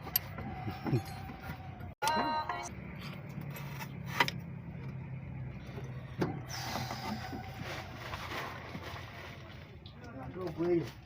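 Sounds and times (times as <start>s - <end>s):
engine running with low hum: 0.0s - 9.9s.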